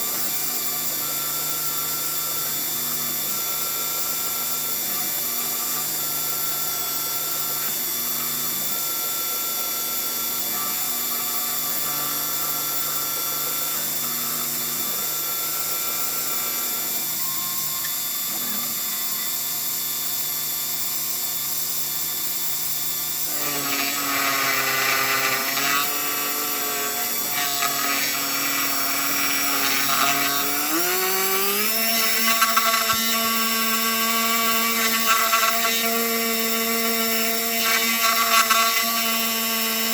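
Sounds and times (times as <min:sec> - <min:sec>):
mill motor whine: 0:00.0 - 0:39.9.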